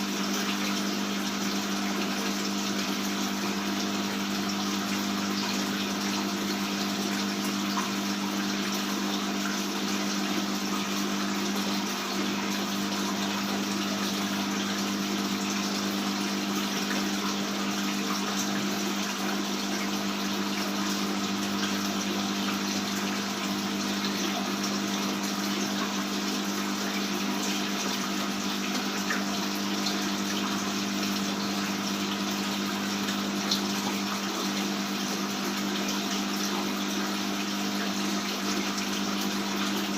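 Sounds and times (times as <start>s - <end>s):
low pump hum: 0.0s - 39.9s.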